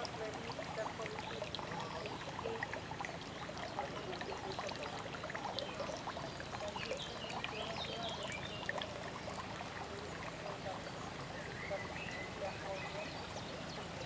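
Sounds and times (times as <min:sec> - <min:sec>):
waterfall splashing into pond: 0:00.0 - 0:14.0.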